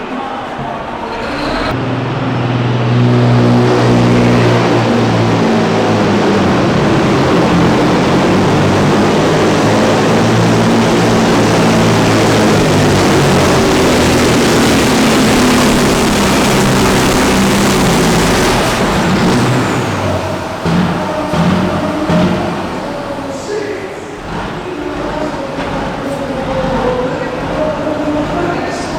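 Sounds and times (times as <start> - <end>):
diesel truck engine at full throttle: 0.0 - 28.9.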